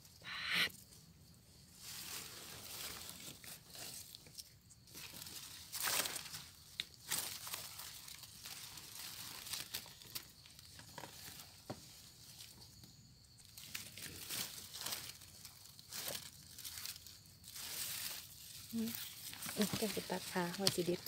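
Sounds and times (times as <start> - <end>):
leaves and undergrowth rustling: 0.3 - 21.0.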